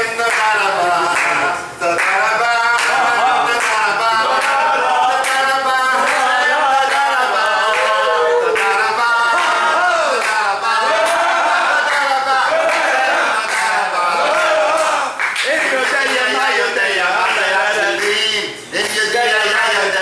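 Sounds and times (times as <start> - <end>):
group singing unaccompanied: 0.0 - 20.0.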